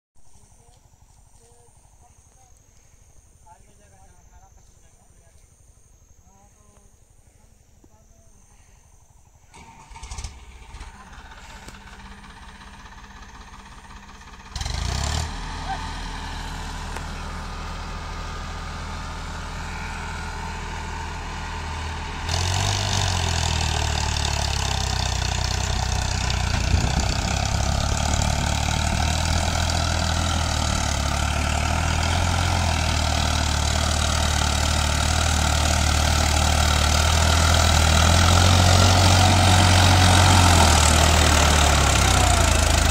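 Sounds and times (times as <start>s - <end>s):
tractor diesel engine droning: 8.4s - 42.9s.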